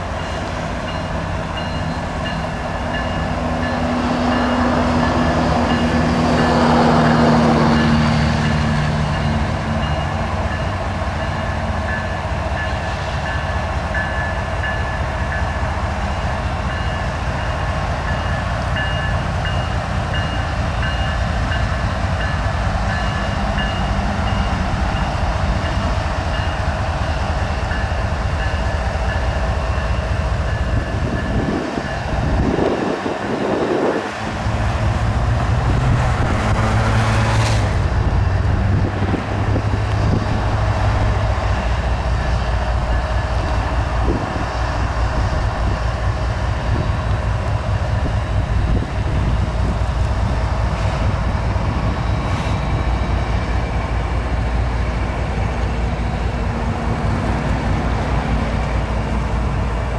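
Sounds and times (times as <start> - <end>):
locomotive engine drone: 0.0 - 59.9
wheels rumbling on rails: 0.0 - 59.9.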